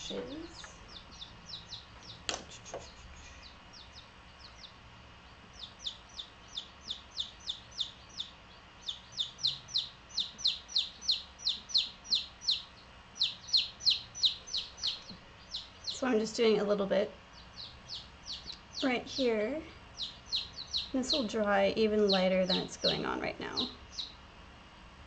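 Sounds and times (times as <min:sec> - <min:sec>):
baby chicks peeping: 0:00.0 - 0:24.3.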